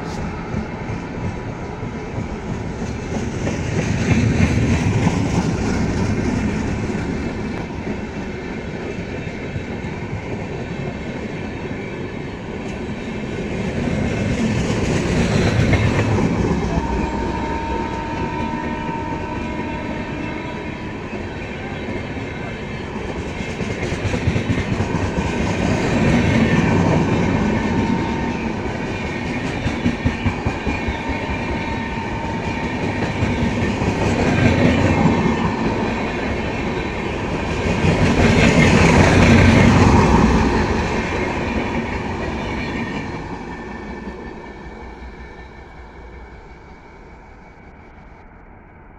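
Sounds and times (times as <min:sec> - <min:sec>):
train wheels clickety-clack: 0:00.0 - 0:19.7, 0:21.8 - 0:46.4.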